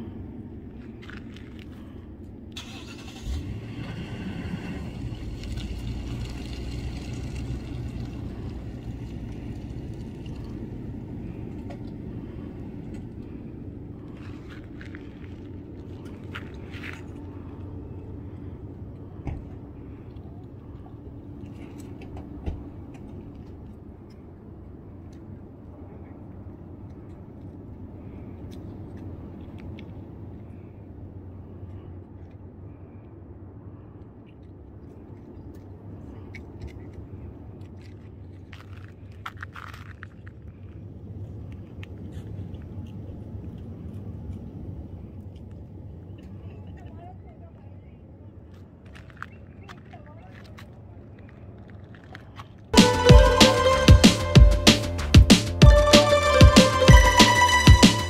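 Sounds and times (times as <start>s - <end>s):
steady low rumble: 0.0s - 48.8s, 50.8s - 58.0s.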